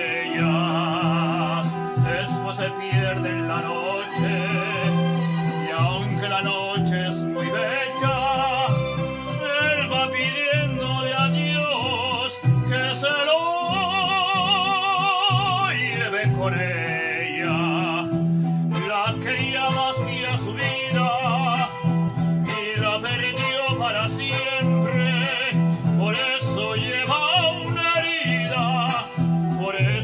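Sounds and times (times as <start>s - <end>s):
backing track guitar: 0.0s - 30.0s
man singing with vibrato: 0.0s - 30.0s
stepping bass line: 0.0s - 30.0s.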